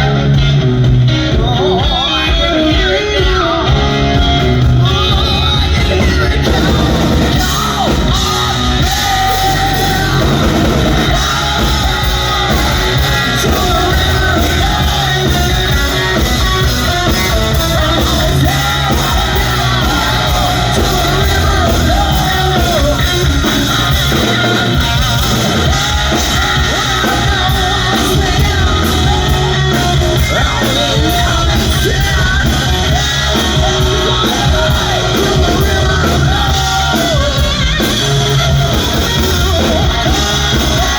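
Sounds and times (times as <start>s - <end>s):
hard rock band playing live: 0.0s - 40.9s
person singing: 0.0s - 40.9s.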